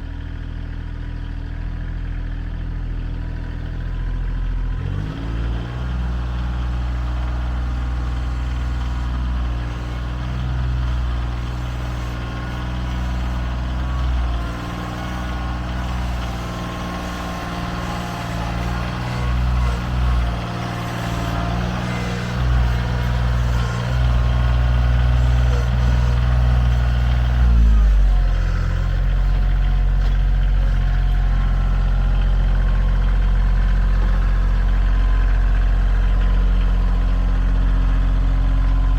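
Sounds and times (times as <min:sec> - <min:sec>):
vehicle engine driving: 0:00.0 - 0:38.9.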